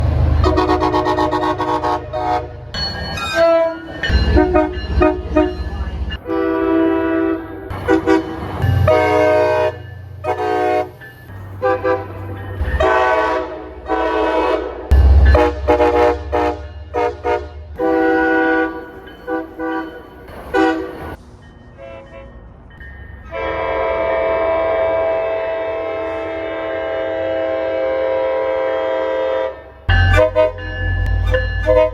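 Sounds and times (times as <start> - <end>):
deep locomotive rumble: 0.0 - 31.9
train horn blasts: 0.4 - 11.0, 11.6 - 21.2, 23.3 - 31.9.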